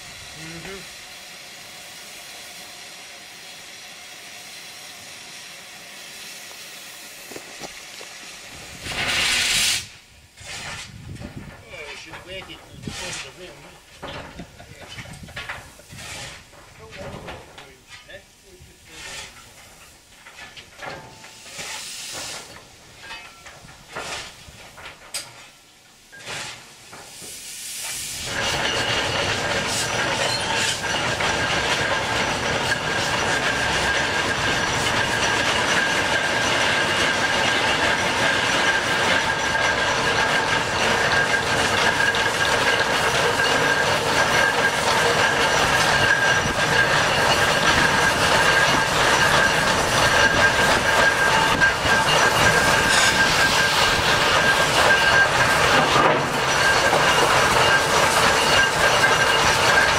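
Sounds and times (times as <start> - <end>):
steam hissing: 0.0 - 59.9.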